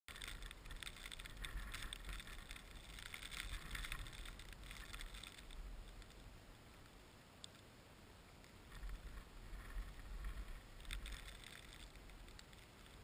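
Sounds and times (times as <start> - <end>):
crackling rustle: 0.1 - 13.0.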